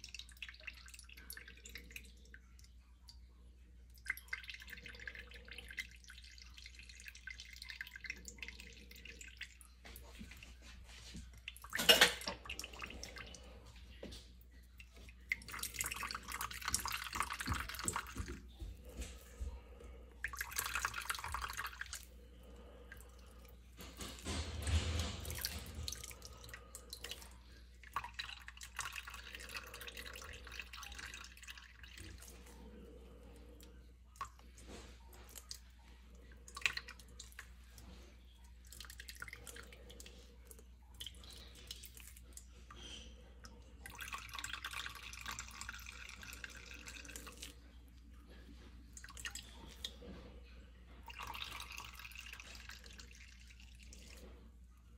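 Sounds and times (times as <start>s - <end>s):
juice trickling and dripping: 0.0s - 54.9s.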